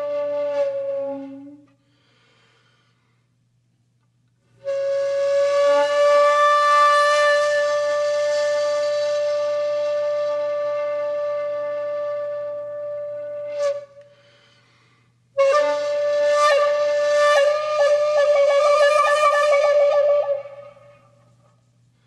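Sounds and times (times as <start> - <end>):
bamboo flute long notes: 0.0 - 2.2, 4.6 - 14.6, 15.4 - 21.6.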